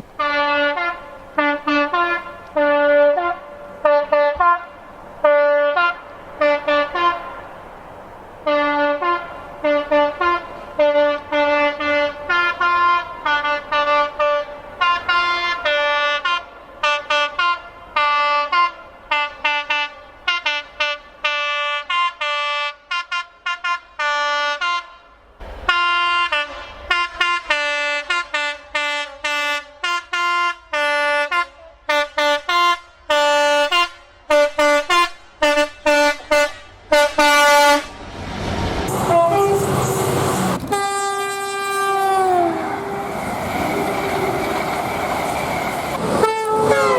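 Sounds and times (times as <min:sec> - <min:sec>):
brighter train horn: 0:00.2 - 0:07.6, 0:08.4 - 0:38.0, 0:38.9 - 0:45.4, 0:46.0 - 0:46.9
train horns high-low blasts: 0:00.2 - 0:07.7, 0:08.4 - 0:38.0, 0:38.8 - 0:46.9.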